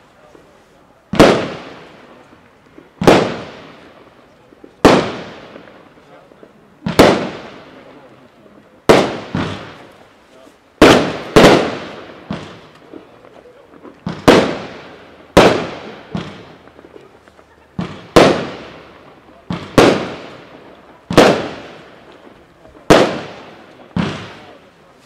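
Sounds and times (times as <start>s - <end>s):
firework bangs: 0.0s - 25.0s
soft firework pops: 0.2s - 25.0s.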